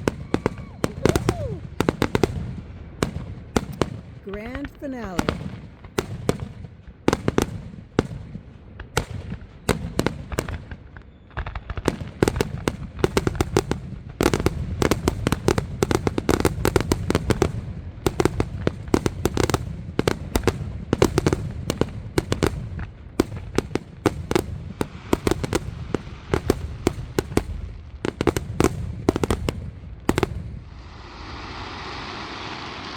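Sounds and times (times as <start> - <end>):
fireworks bursting and crackling: 0.0 - 32.9.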